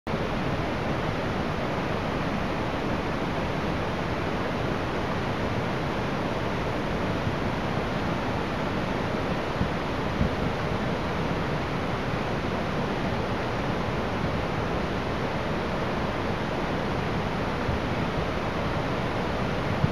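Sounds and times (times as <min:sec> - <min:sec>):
flooded river rushing: 0:00.1 - 0:19.9.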